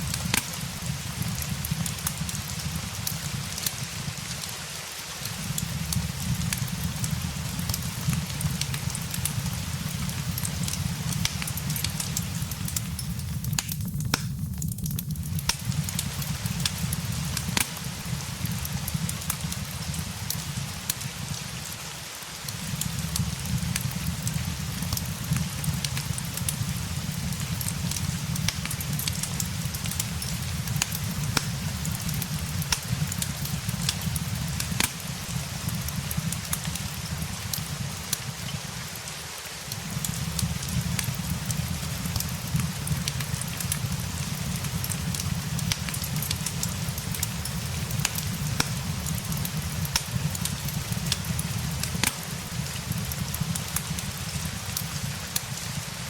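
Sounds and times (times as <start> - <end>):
fireplace crackling and popping: 0.0 - 56.0
steady rain patter: 0.0 - 56.0.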